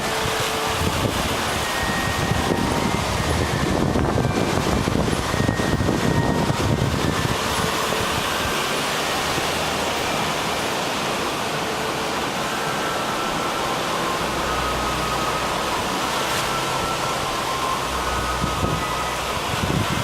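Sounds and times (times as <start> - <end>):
sea surf rushing: 0.0 - 20.0.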